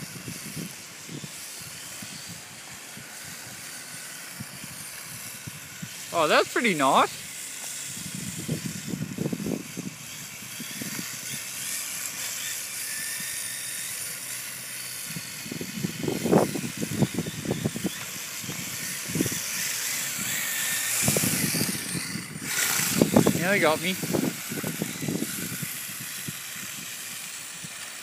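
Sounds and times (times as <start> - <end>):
small motors whining: 0.0 - 28.0.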